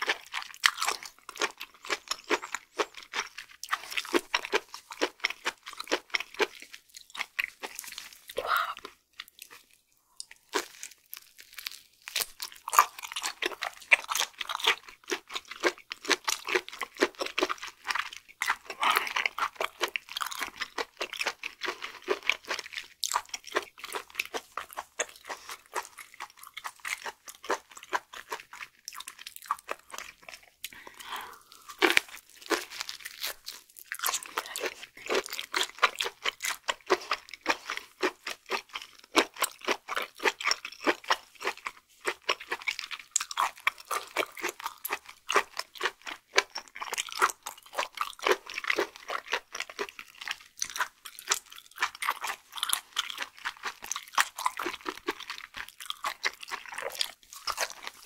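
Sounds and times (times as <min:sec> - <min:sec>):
close chewing with mouth clicks: 0:00.0 - 0:58.0.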